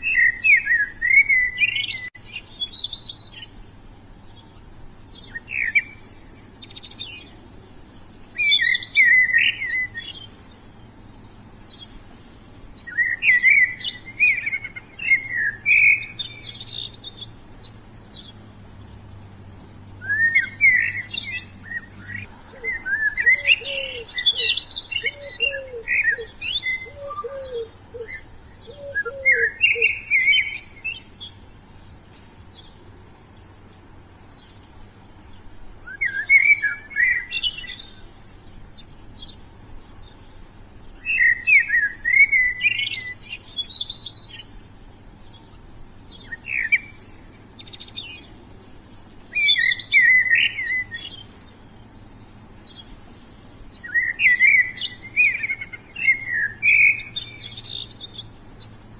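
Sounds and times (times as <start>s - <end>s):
lower bird call: 0.0s - 33.8s, 34.4s - 58.9s
songbirds chirping: 0.0s - 58.9s.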